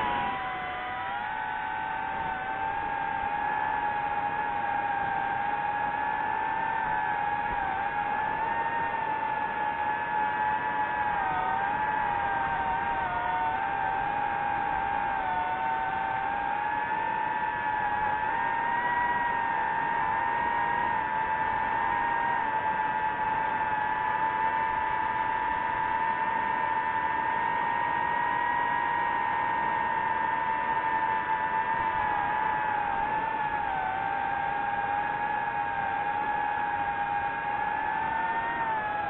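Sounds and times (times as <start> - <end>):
drone propellers whining: 0.0 - 39.0.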